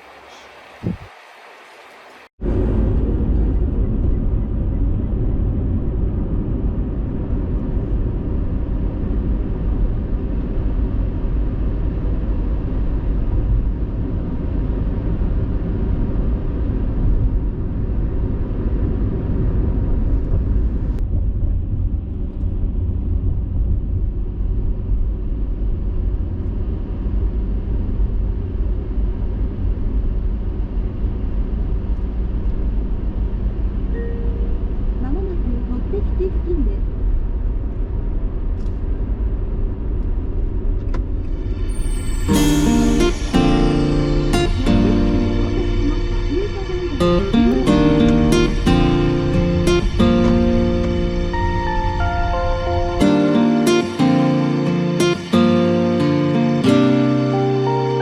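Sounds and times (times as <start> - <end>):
engine and road drone in car: 2.4 - 41.9, 42.6 - 53.8.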